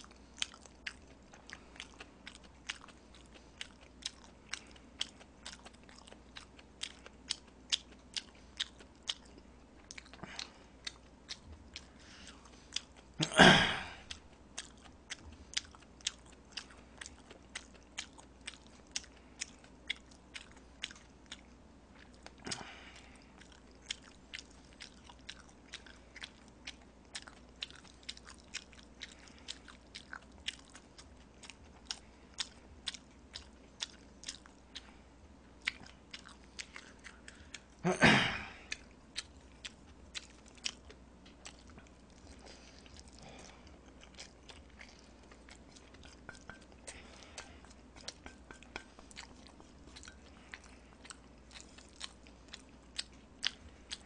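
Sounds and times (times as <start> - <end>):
person chewing noodles: 0.0 - 54.0.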